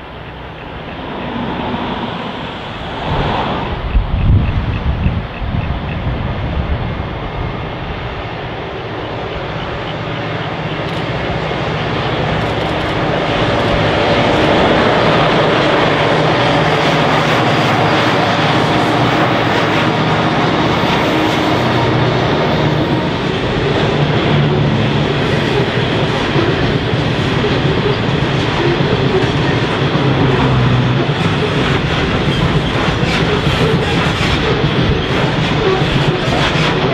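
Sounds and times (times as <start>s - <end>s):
freight locomotive engines droning: 0.0s - 36.9s.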